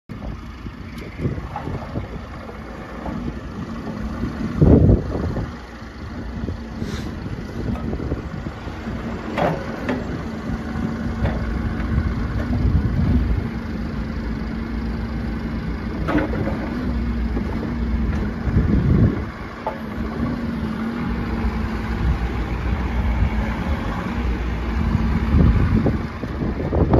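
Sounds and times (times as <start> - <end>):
excavator diesel engine running: 0.1 - 26.9
hydraulic droning tone: 0.1 - 26.9.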